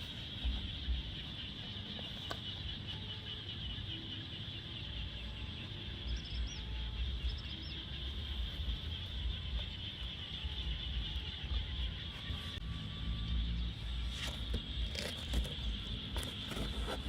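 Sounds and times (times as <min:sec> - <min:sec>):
high-pitched drone: 0:00.0 - 0:16.5
bird chirps: 0:00.0 - 0:17.0.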